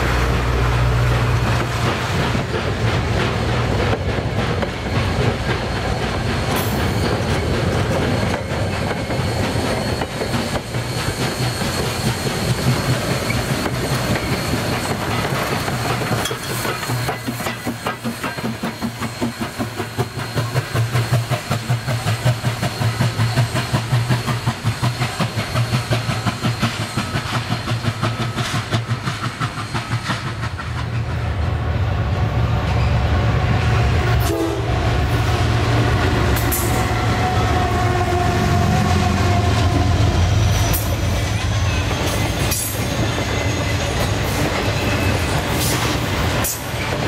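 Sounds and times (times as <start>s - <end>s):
diesel freight train rumbling past: 0.0s - 47.0s
steam locomotive exhaust pulsing: 0.0s - 47.0s.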